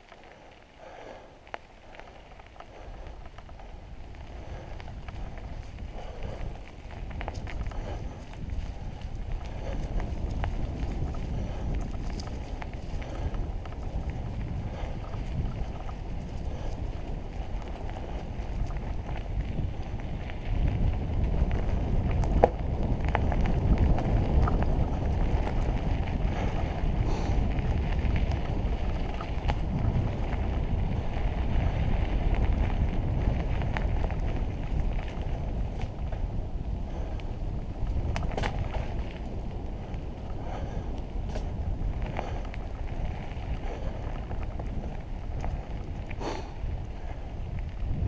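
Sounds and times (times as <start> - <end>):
bike tyres rolling on dirt: 0.0 - 48.0
wind noise on microphone: 0.0 - 48.0.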